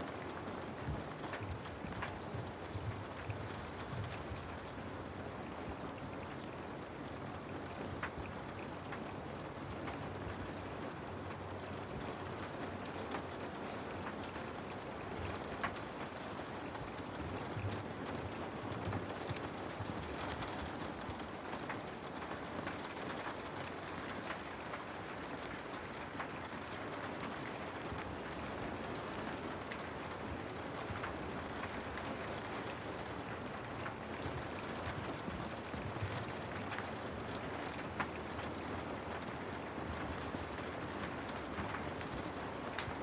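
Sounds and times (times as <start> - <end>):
raindrops ticking: 0.0 - 43.0
steady rain: 0.0 - 43.0.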